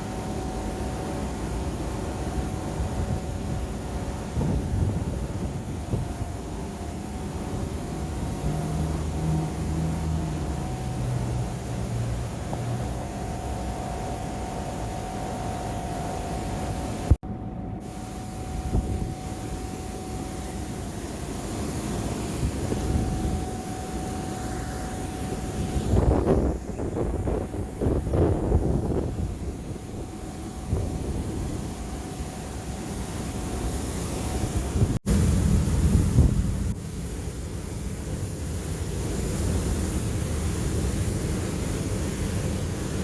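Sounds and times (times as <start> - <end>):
water rushing over a weir: 0.0 - 17.2, 18.2 - 43.0.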